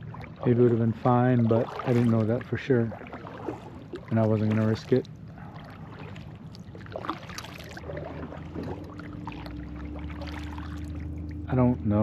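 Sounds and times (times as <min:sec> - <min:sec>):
kayak paddle splashing: 0:00.0 - 0:11.5
steady low hum: 0:00.0 - 0:12.0.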